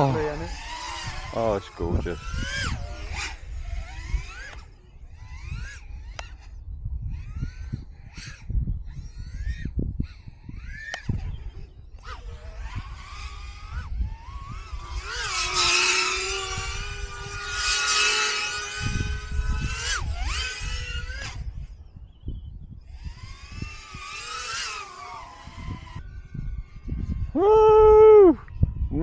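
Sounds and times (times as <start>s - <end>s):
drone motors whining: 0.0s - 29.0s
wind rumble on microphone: 0.0s - 29.0s.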